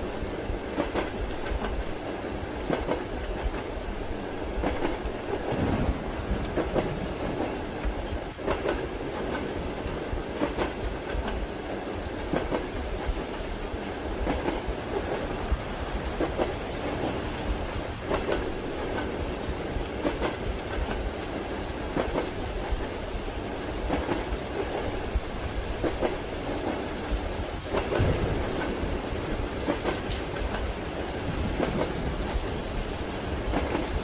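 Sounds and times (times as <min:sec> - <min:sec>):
rain falling: 0:00.0 - 0:34.0
train carriage rumble: 0:00.0 - 0:34.0
train wheels clacking over joints: 0:00.4 - 0:34.0.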